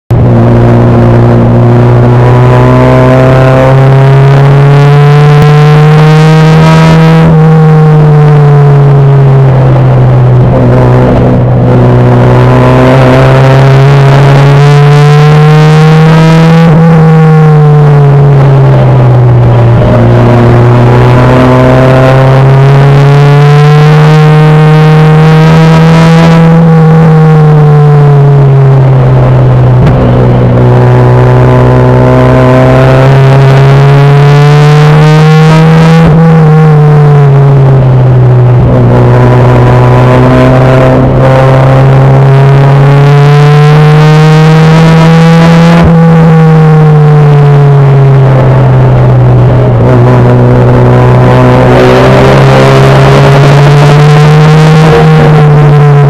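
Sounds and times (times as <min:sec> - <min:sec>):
race car engine revving: 0:00.1 - 0:56.0.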